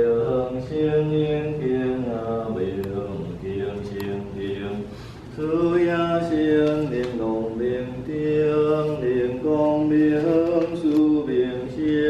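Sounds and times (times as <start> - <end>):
person chanting a liturgy: 0.0 - 12.0.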